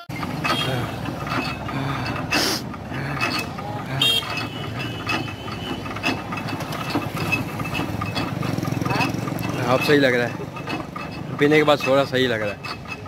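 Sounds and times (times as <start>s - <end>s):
motorized machine humming and rattling: 0.0s - 13.0s.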